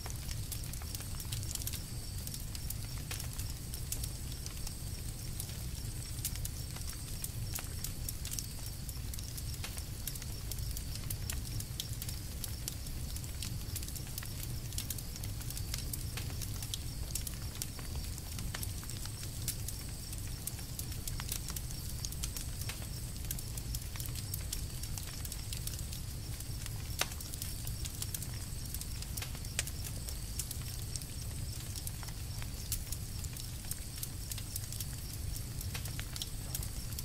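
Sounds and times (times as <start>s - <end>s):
campfire crackling and popping: 0.0s - 37.0s
low fire rumble: 0.0s - 37.0s.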